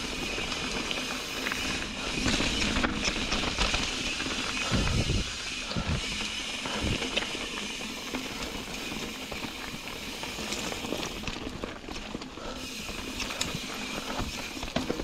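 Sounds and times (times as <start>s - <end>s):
bike clicks and rattles: 0.0s - 15.0s
bike tyres on gravel: 0.0s - 15.0s.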